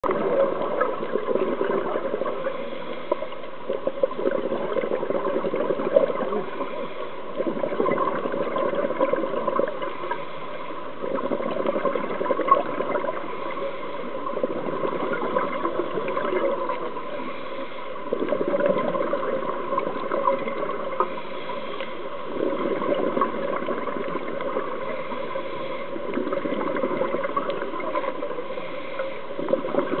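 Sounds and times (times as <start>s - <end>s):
crackling hiss: 0.0s - 30.0s
gurgling underwater bubbles: 0.0s - 30.0s.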